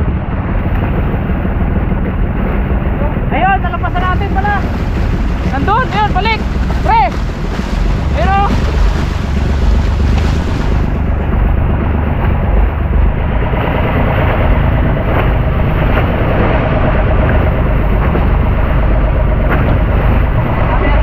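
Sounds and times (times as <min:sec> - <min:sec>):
boat engine drone: 0:00.0 - 0:21.0
water splashing against hull: 0:00.0 - 0:21.0
wind on microphone: 0:00.0 - 0:21.0.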